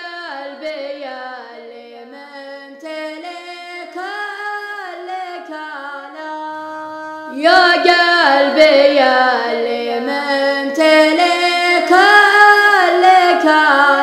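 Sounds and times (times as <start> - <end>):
boy singing: 0.0 - 14.0.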